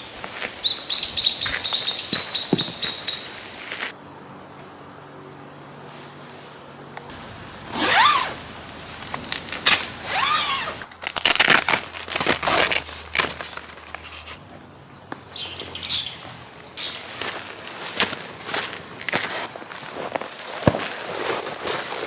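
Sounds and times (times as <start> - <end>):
rustling and scraping: 0.0 - 4.0, 5.8 - 14.5, 16.2 - 22.0.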